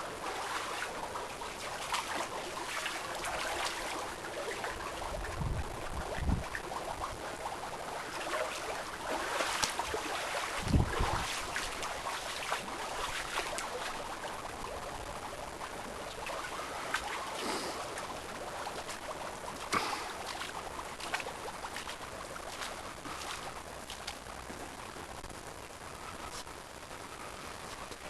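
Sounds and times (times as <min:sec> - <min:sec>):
floodwater flowing: 0:00.0 - 0:25.9.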